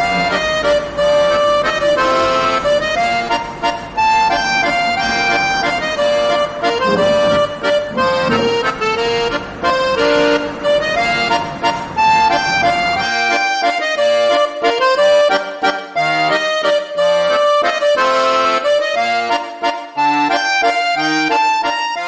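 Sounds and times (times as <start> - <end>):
accordion-like melody: 0.0 - 22.0.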